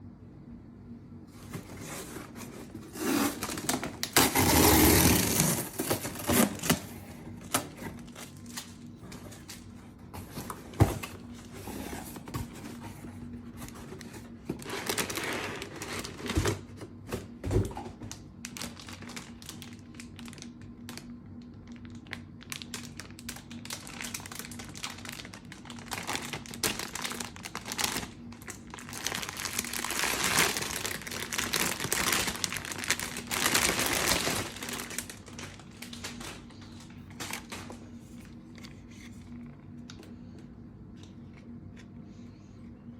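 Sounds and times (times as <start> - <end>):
faint steady hum: 0.0 - 42.9
packaging crinkling and rustling: 1.3 - 40.1.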